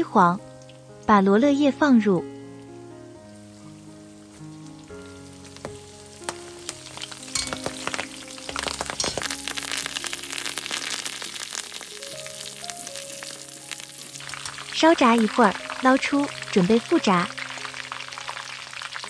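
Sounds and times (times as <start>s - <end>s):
deep-frying sizzle: 2.5s - 19.0s.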